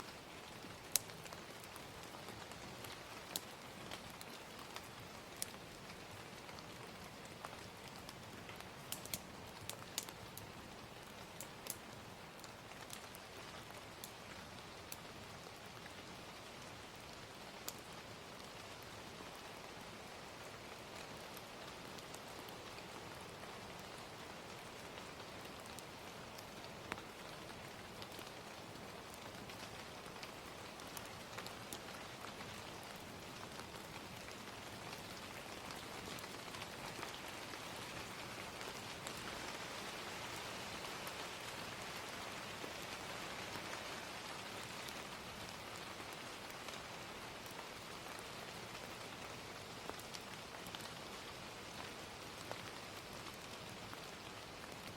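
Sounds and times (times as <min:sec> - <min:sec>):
gentle rain falling: 0:00.0 - 0:54.9
wood fire crackling: 0:00.0 - 0:54.9.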